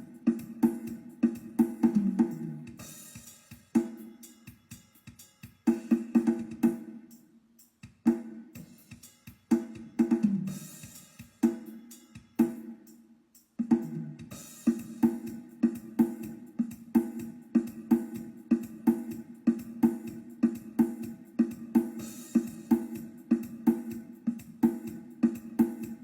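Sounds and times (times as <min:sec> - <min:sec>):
drum-heavy music through loudspeaker: 0:00.0 - 0:07.0, 0:07.8 - 0:12.8, 0:13.6 - 0:26.0.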